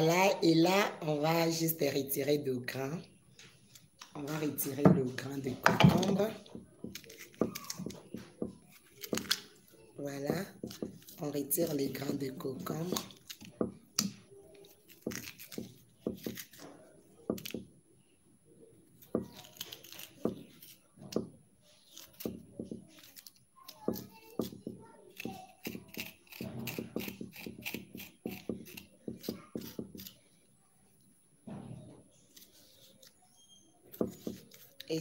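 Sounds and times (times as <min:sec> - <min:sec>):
knife scraping cucumber seeds: 0:03.7 - 0:17.6, 0:19.0 - 0:30.4, 0:32.2 - 0:35.0.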